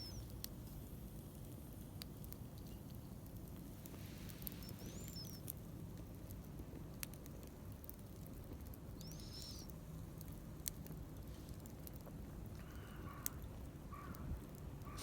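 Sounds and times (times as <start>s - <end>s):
small wood fire crackling: 0.0s - 15.0s.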